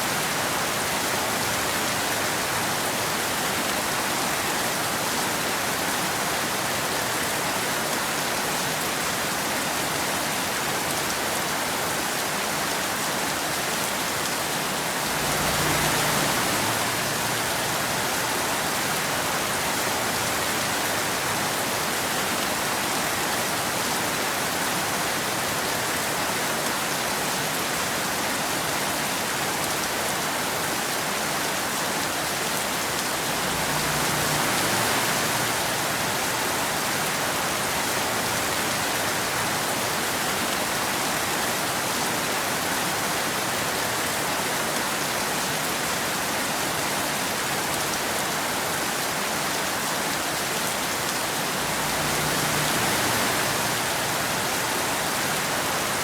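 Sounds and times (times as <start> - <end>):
rain on a hard surface: 0.0 - 56.0.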